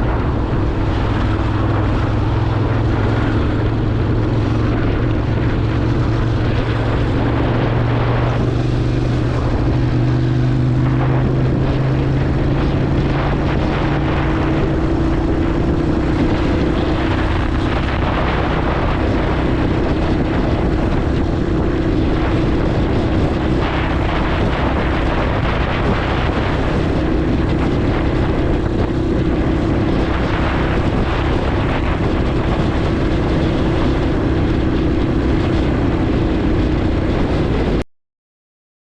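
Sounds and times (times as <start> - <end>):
motorcycle engine cruising: 0.0 - 37.8
wind rush on microphone: 0.0 - 37.8.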